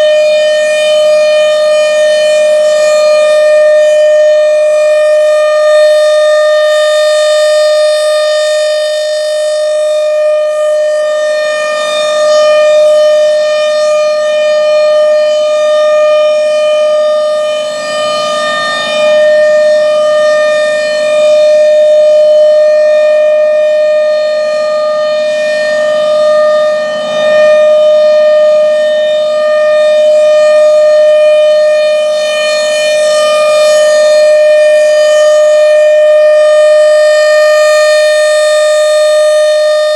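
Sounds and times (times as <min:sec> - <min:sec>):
rotating tornado siren wailing: 0:00.0 - 0:39.9.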